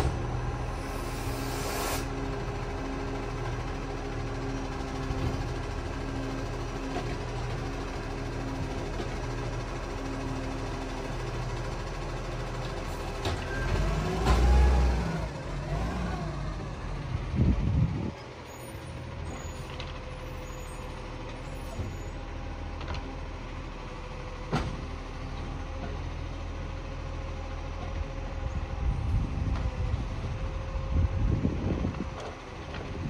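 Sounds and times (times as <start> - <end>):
garbage truck diesel engine: 0.0 - 33.0.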